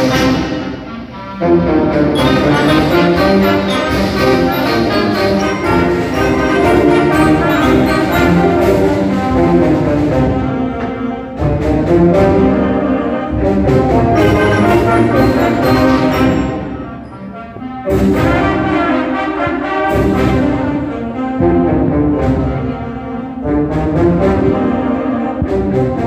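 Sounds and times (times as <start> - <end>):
concert band playing: 0.0 - 26.0.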